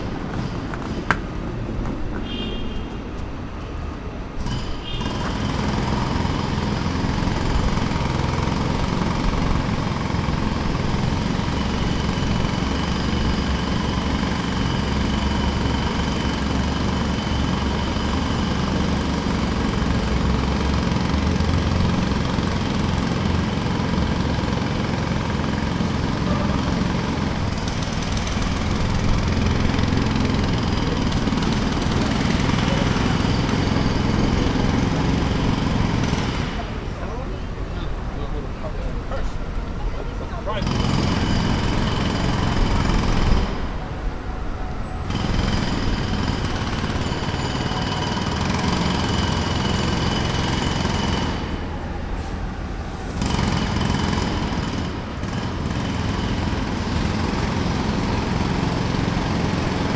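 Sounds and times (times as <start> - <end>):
jackhammer hammering: 0.0 - 1.5, 4.3 - 38.0, 40.5 - 44.1, 44.9 - 52.0, 53.0 - 59.9.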